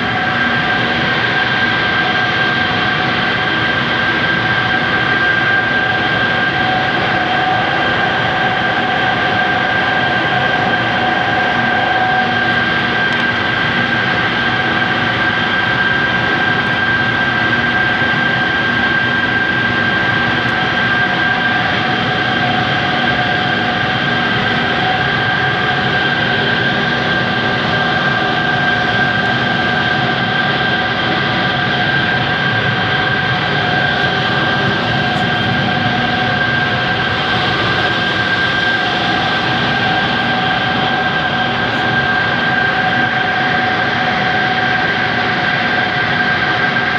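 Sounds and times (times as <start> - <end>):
centrifugal compressor whine: 0.0 - 46.9.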